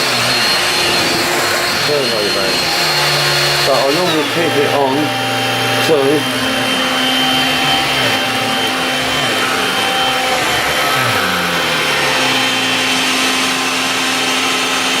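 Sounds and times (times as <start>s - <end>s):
stick vacuum cleaner running: 0.0s - 15.0s.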